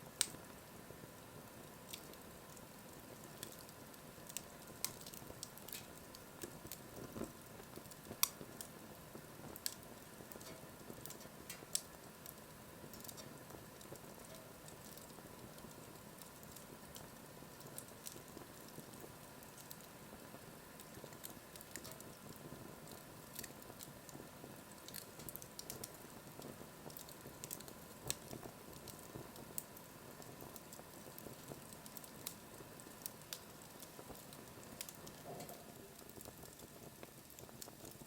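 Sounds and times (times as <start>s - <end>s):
low fire hiss: 0.0s - 38.0s
wood fire crackling and popping: 0.0s - 38.0s.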